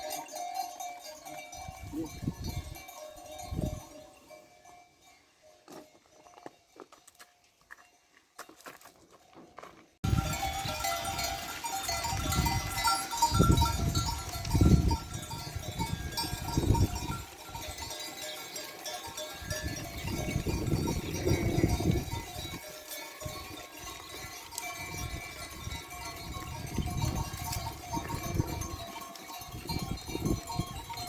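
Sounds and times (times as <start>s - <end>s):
neck bells clinking: 0.0s - 9.4s, 10.0s - 31.0s.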